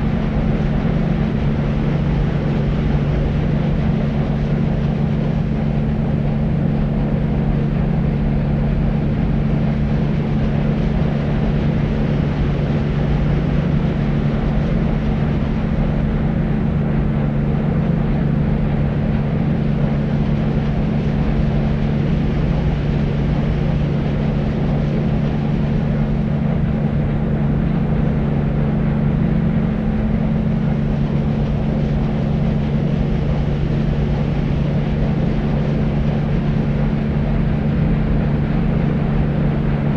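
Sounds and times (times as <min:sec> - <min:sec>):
deep white noise: 0:00.0 - 0:39.9
low hum: 0:00.0 - 0:39.9.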